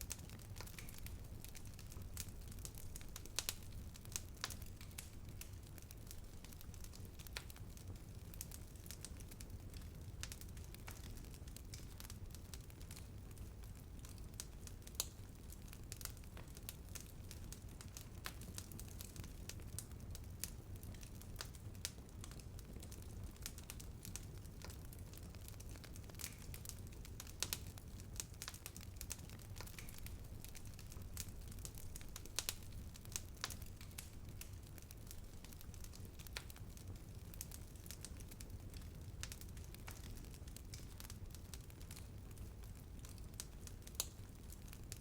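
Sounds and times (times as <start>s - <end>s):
burning wood crackling and popping: 0.0s - 45.0s
wood fire rumbling: 0.0s - 45.0s.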